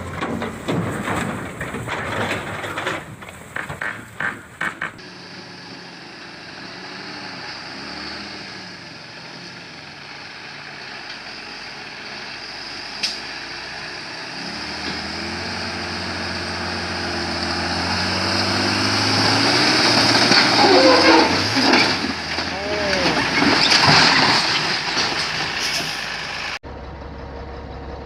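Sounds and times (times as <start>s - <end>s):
diesel truck engine pulling: 0.0s - 28.0s.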